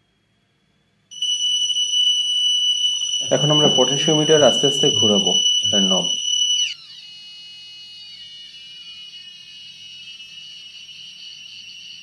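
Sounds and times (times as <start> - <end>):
piezo buzzer beep: 1.2 - 12.0.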